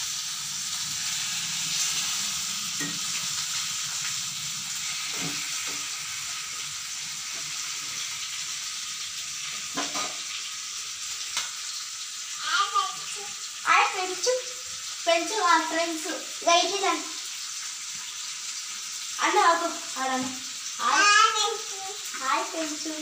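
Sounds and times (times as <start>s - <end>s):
fish frying in oil: 0.0s - 23.0s.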